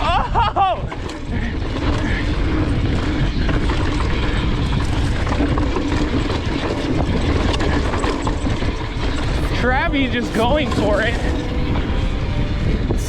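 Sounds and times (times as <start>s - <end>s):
bike rattles and clicks: 0.0s - 13.0s
bike tyre rumble on dirt: 0.0s - 13.0s.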